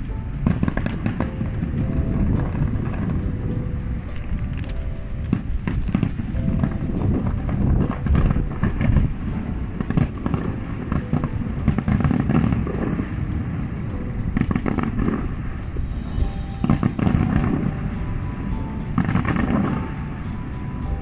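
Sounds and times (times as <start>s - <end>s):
fireworks bangs and crackles: 0.0s - 21.0s
music: 0.0s - 21.0s.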